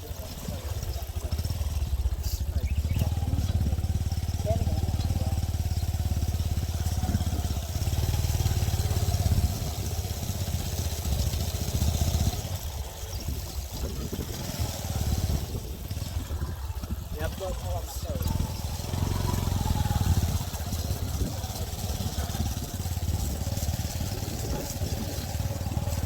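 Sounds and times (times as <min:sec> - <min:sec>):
motorcycle engine rumble: 0:00.0 - 0:26.0.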